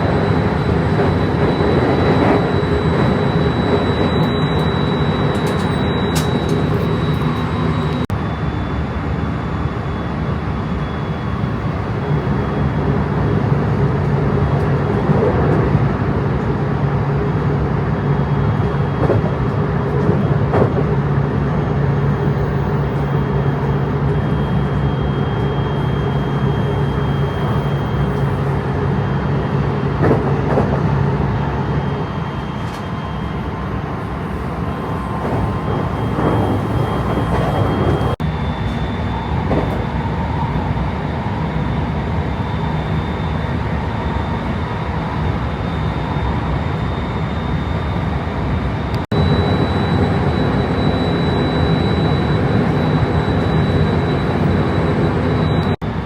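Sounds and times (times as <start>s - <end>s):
train rumble and hum: 0.0s - 56.0s.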